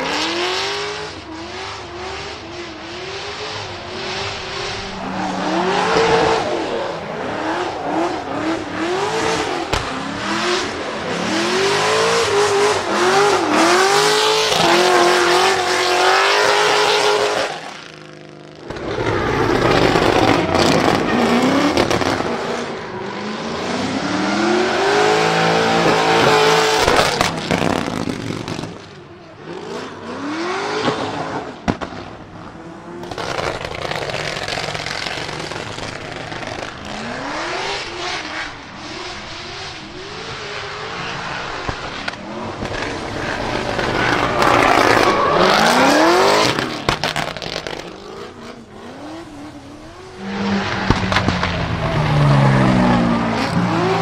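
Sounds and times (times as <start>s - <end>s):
engine revving: 0.0s - 18.0s, 18.6s - 28.8s, 33.0s - 54.0s.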